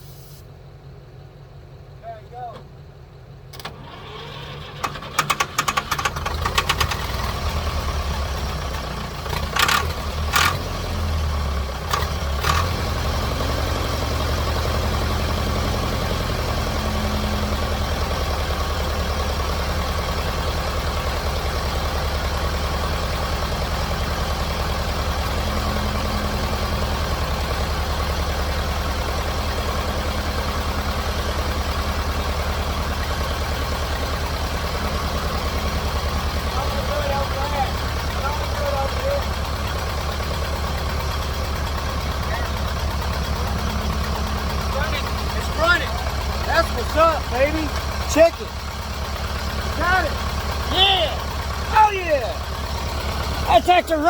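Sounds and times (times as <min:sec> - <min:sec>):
diesel tractor engine misfiring: 0:00.0 - 0:54.0
engine bangs: 0:03.5 - 0:54.0.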